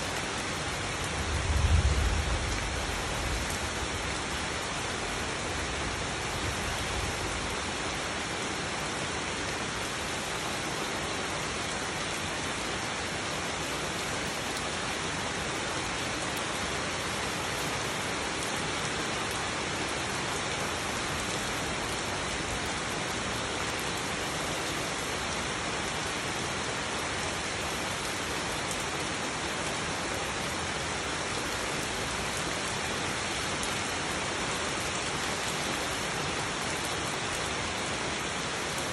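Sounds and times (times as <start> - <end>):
rain on leaves and wet ground: 0.0 - 38.9.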